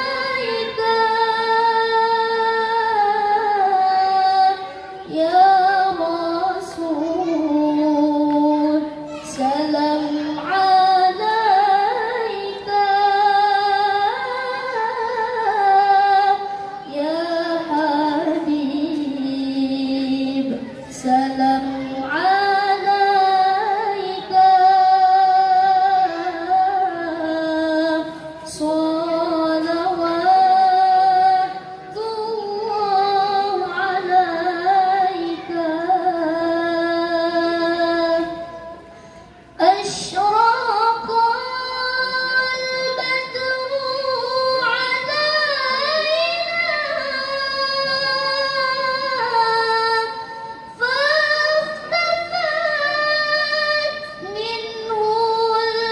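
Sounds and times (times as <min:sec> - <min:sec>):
woman reciting melodically: 0:00.0 - 0:55.9.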